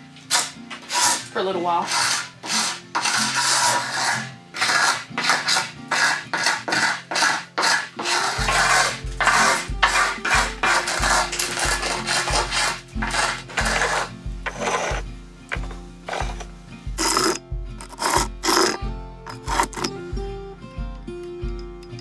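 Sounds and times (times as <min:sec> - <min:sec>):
background music: 0:00.0 - 0:22.0
paint scraper scraping wood: 0:00.3 - 0:16.4, 0:17.0 - 0:19.9.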